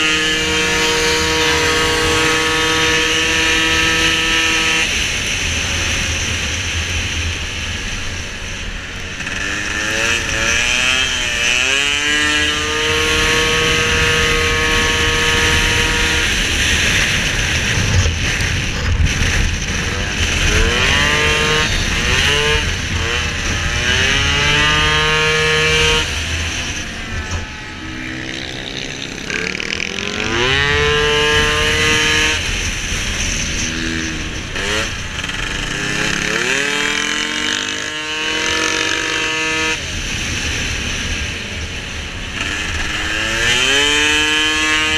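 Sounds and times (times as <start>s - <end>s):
scooter engine revving: 0.0s - 44.9s.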